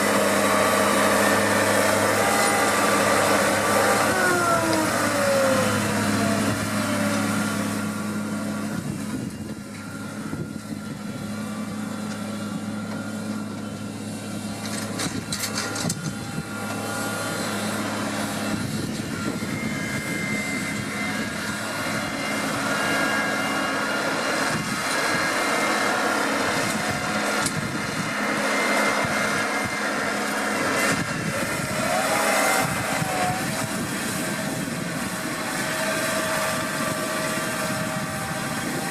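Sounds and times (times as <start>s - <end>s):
rough working noise: 0.0s - 38.9s
tractor diesel engine under load: 0.0s - 38.9s.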